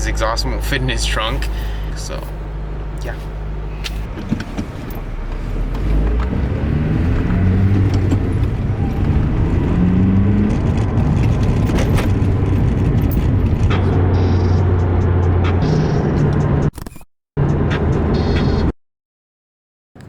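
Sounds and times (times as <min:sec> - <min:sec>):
road noise: 0:00.0 - 0:16.7, 0:17.4 - 0:18.7
car engine drone: 0:00.0 - 0:16.8, 0:17.4 - 0:18.7.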